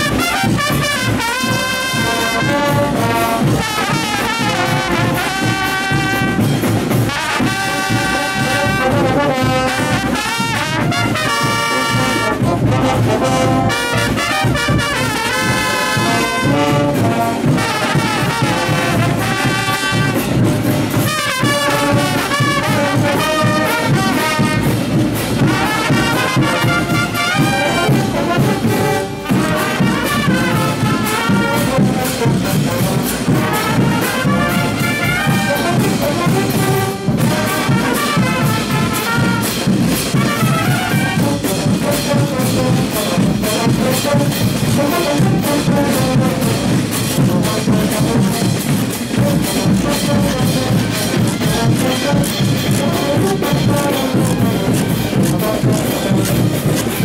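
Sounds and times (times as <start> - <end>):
brass band playing dance tune: 0.0 - 57.0
drums keeping the beat: 0.0 - 57.0.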